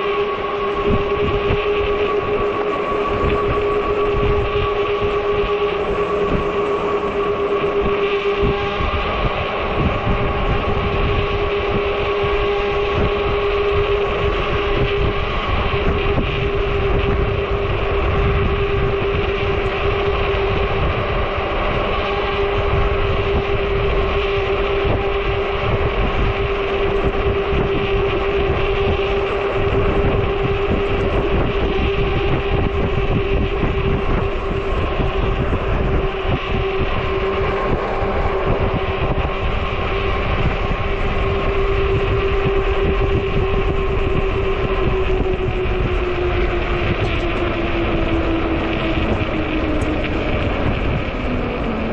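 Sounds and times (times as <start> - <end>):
electric bike motor whine: 0.0 - 51.9
tire road rumble: 0.0 - 51.9
wind buffeting microphone: 0.0 - 51.9.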